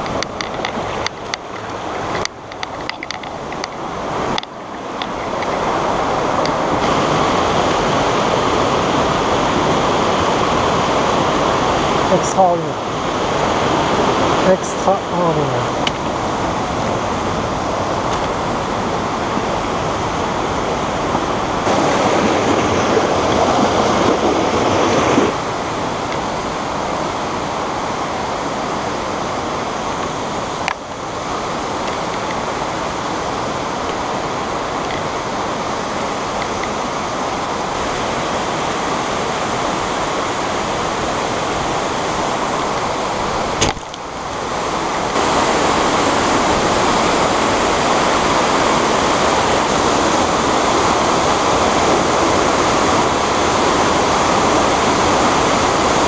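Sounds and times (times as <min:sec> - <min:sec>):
stream rushing over rocks: 0:00.0 - 0:56.0
waterfall: 0:00.0 - 0:56.0.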